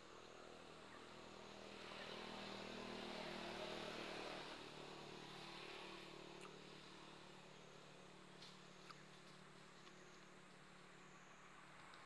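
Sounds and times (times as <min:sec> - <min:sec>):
distant vehicle engine hum: 0:00.0 - 0:12.0.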